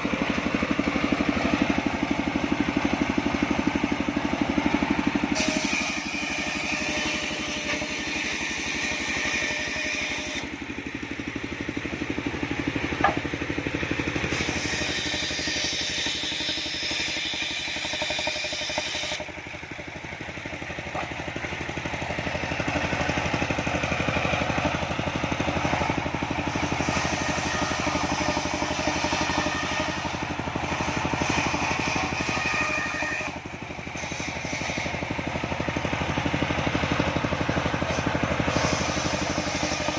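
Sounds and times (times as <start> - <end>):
circular sawmill sawing wood: 0.0 - 39.9.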